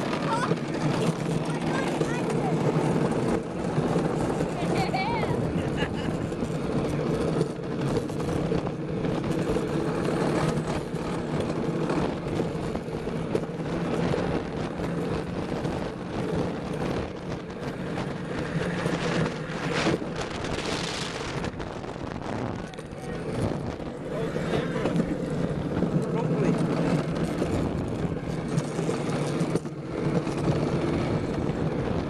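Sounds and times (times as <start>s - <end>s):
tyres rumbling on asphalt: 0.0s - 32.0s
wind buffeting microphone: 0.0s - 32.0s.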